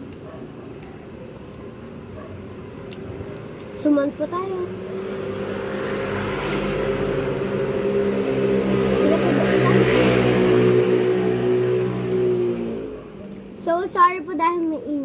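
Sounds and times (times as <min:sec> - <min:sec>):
motorcycles passing by: 0:00.0 - 0:14.0.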